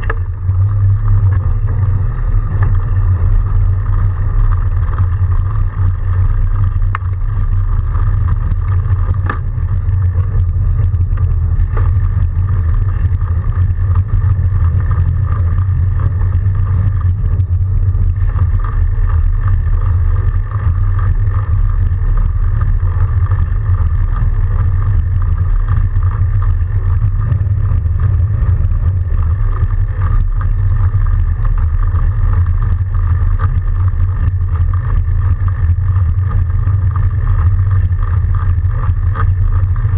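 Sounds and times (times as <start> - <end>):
tyres rumbling in snow: 0.0 - 39.9
wind on microphone: 0.0 - 39.9.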